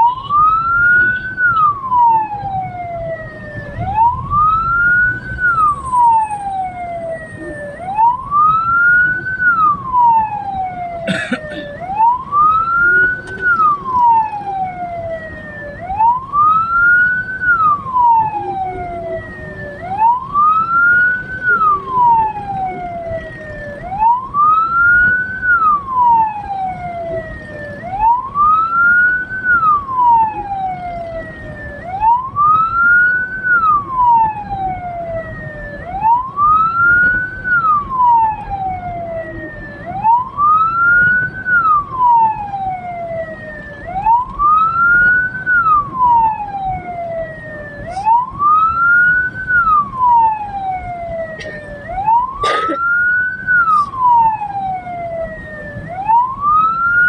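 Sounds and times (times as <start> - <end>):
road noise: 0.0 - 57.0
siren wailing: 0.0 - 57.0.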